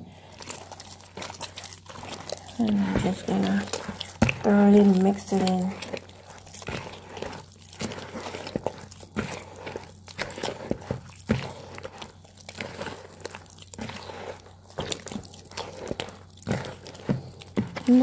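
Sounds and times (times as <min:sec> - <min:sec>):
spoon stirring sticky batter: 0:00.0 - 0:18.0.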